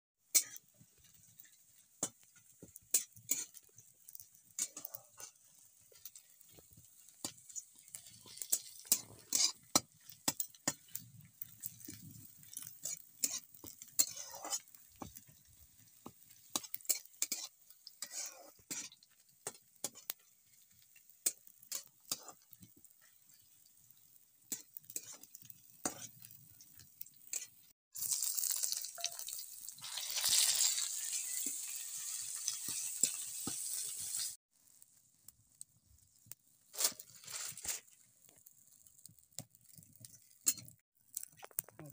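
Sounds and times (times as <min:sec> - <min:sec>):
spatula stirring in wok: 0:00.2 - 0:35.3
food sizzling in a wok: 0:00.2 - 0:40.8
steel bowls and utensils clanking: 0:00.4 - 0:34.4, 0:40.4 - 0:40.8.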